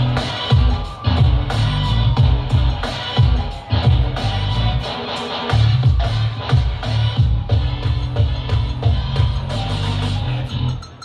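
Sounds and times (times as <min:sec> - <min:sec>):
hip-hop dance music: 0:00.0 - 0:11.0.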